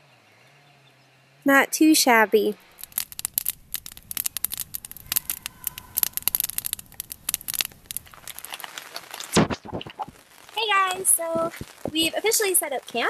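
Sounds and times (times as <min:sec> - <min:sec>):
campfire crackling and popping: 0:02.4 - 0:13.0.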